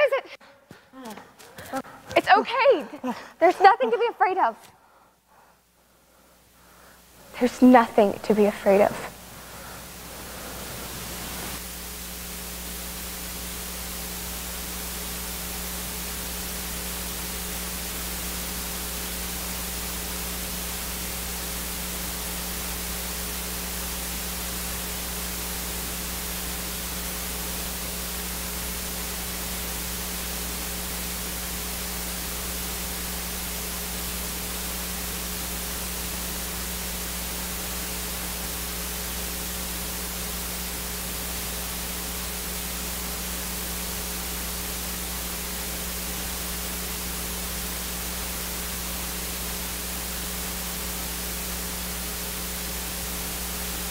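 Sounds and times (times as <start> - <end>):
low electrical hum: 0.0 - 53.9
static hiss: 2.1 - 53.9.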